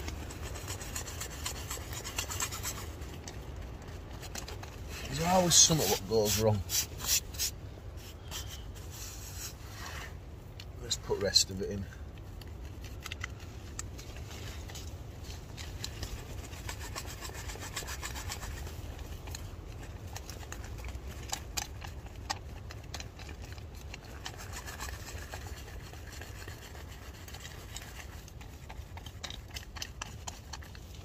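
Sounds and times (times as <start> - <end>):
scratchy rubbing and clicks: 0.0 - 31.0.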